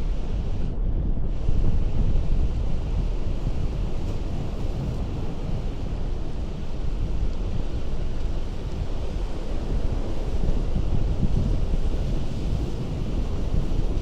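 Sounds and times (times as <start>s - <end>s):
ocean surf on rocks: 0.0s - 14.0s
wind buffeting microphone: 0.0s - 14.0s.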